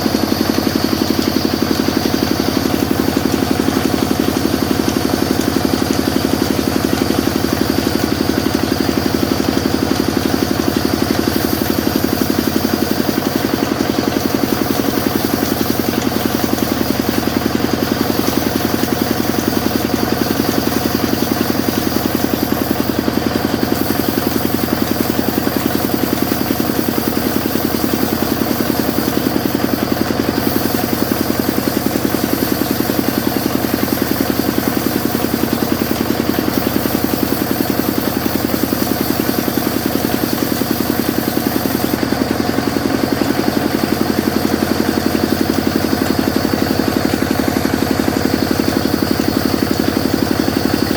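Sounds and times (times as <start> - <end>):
sawmill machine running: 0.0 - 50.9.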